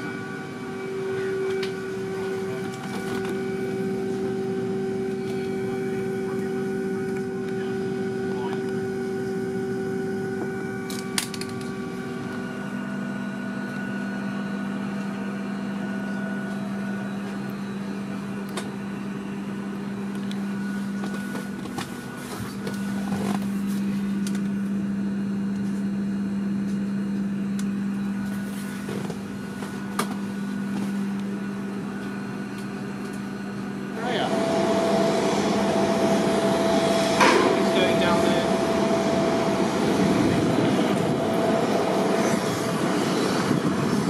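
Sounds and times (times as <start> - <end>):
air-conditioning hum: 0.0 - 44.0.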